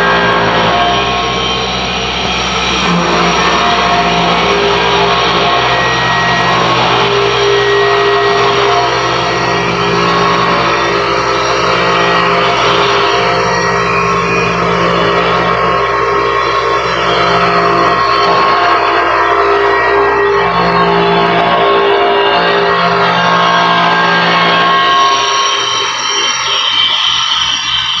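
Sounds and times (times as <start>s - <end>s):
engraving machine running: 0.0s - 28.0s
motors whining: 0.0s - 28.0s.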